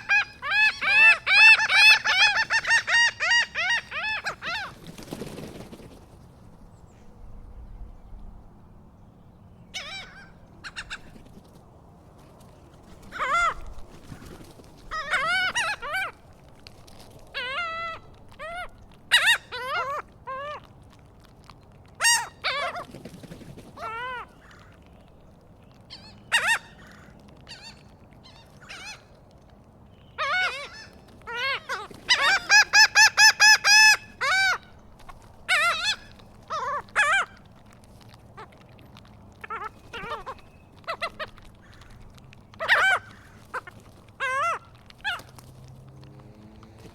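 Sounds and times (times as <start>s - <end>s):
seagulls calling: 0.0s - 5.9s, 9.6s - 11.5s, 12.3s - 16.3s, 17.3s - 20.7s, 22.0s - 29.3s, 29.9s - 46.9s.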